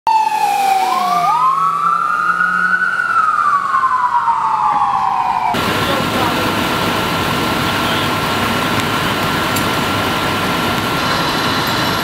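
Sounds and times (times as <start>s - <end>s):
emergency sirens wailing: 0.1s - 12.0s.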